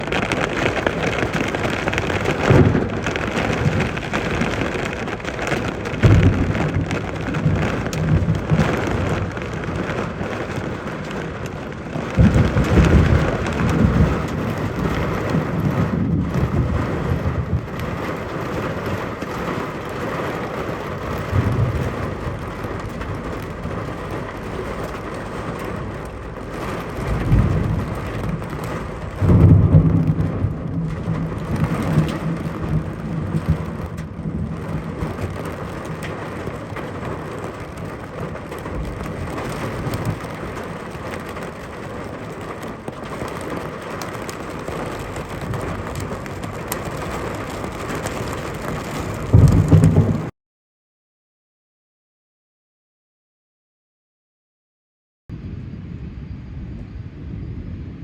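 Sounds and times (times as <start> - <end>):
heavy rain falling: 0.0 - 50.3
thunder rumbling: 0.0 - 50.3, 55.3 - 58.0.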